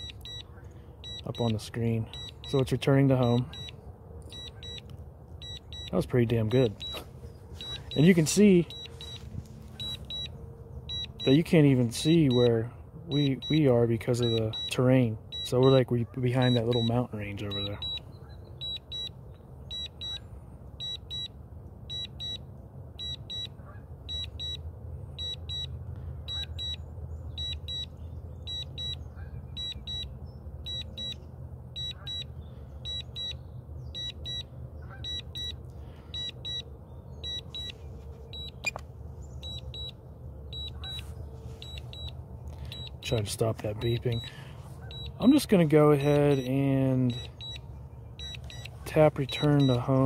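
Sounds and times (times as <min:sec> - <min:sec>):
high-pitched warning beeps: 0:00.0 - 0:20.2, 0:20.8 - 0:21.3, 0:21.9 - 0:22.4, 0:23.0 - 0:23.5, 0:24.1 - 0:24.6, 0:25.2 - 0:25.7, 0:26.3 - 0:26.8, 0:27.4 - 0:27.9, 0:28.5 - 0:29.0, 0:29.6 - 0:31.2, 0:31.8 - 0:38.8, 0:39.4 - 0:50.0.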